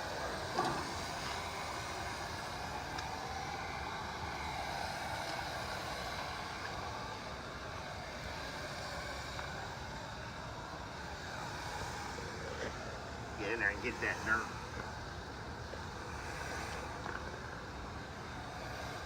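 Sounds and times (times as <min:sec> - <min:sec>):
hissing water spray: 0:00.0 - 0:13.3, 0:14.4 - 0:19.0.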